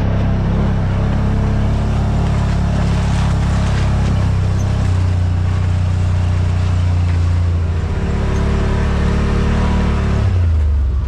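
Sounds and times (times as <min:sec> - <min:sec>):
engine droning: 0:00.0 - 0:11.0
tyre noise on dirt trail: 0:00.0 - 0:11.0.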